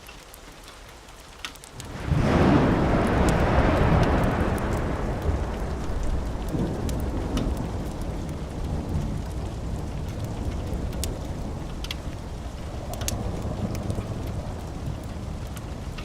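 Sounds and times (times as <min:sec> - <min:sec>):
fireplace fire crackling: 0:00.0 - 0:16.0
steady rain: 0:00.0 - 0:16.0
thunder rumbling: 0:01.8 - 0:16.0.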